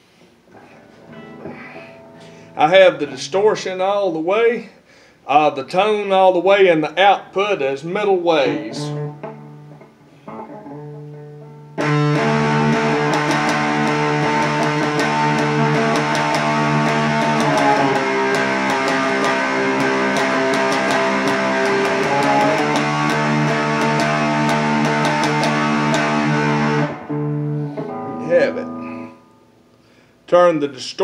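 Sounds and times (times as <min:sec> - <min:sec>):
distorted electric guitar chords: 0:00.5 - 0:03.8, 0:08.4 - 0:30.1.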